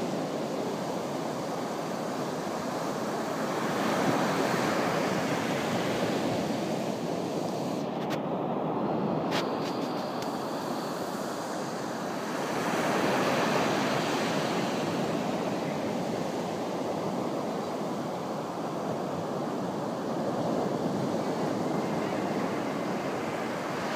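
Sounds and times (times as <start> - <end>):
surf breaking on a beach: 0.0 - 23.9.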